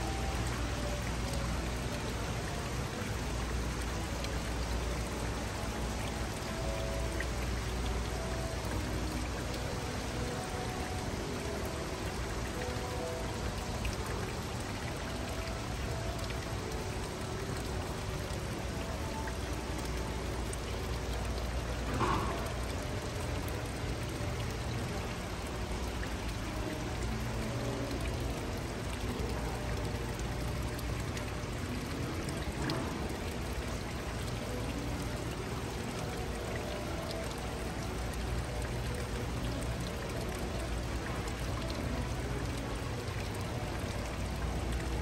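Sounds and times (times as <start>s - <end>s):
running water rushing: 0.0s - 45.0s.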